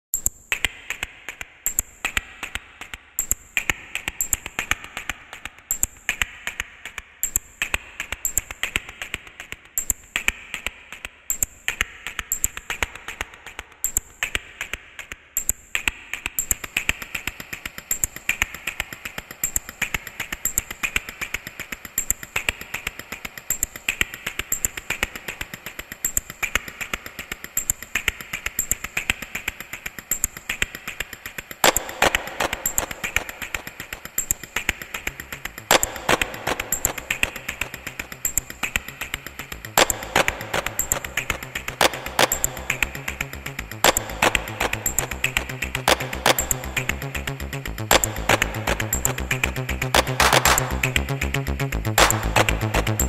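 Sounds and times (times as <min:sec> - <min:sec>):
high ticks: 0:00.1 - 0:53.0
clicking techno percussion: 0:00.2 - 0:53.0.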